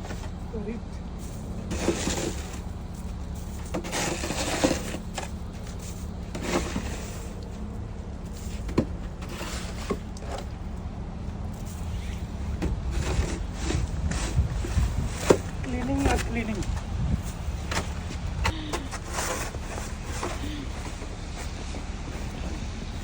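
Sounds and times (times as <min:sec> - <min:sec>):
wet snow crunching and scraping: 0:00.0 - 0:10.7, 0:11.4 - 0:23.0
steady low hum: 0:00.0 - 0:23.0.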